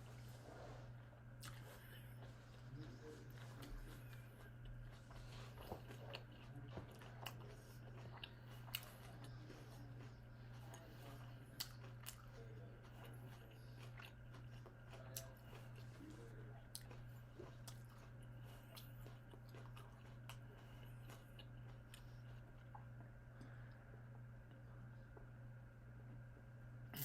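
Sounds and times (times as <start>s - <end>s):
person chewing: 0.0s - 25.3s
steady low hum: 0.0s - 27.0s.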